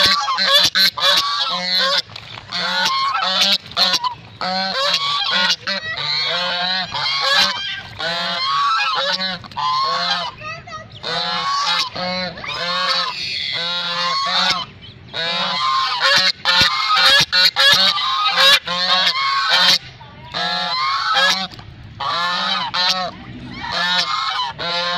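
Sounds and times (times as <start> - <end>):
geese honking: 0.0 - 24.9.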